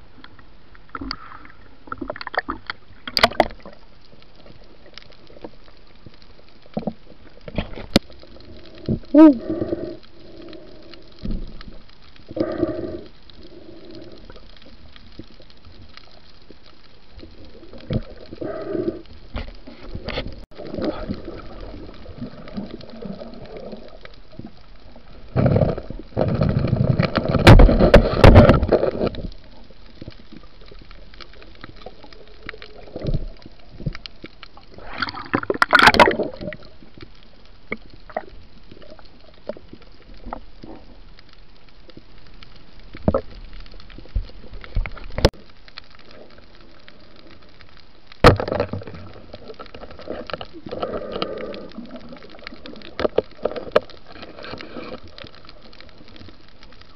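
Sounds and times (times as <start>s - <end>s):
underwater low hiss: 0.0s - 56.9s
water gurgling: 0.0s - 56.9s
underwater clicks: 0.2s - 56.9s.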